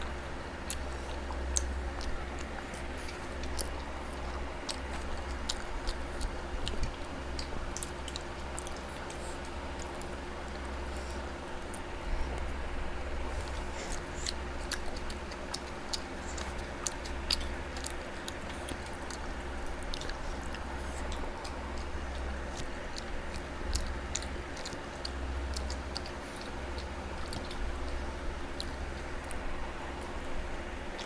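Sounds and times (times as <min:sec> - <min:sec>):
person chewing food: 0:00.0 - 0:31.0
steady low hum: 0:00.0 - 0:31.0.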